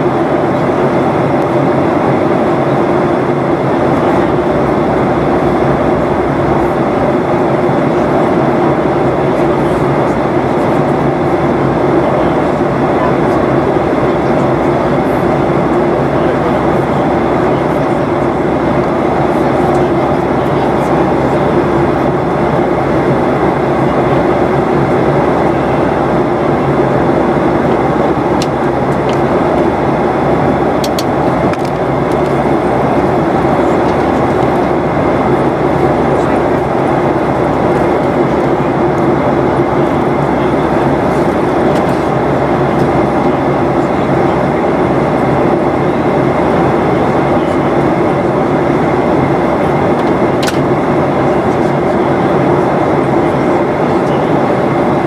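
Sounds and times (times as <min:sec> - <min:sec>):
airplane cabin engine noise: 0:00.0 - 0:55.0.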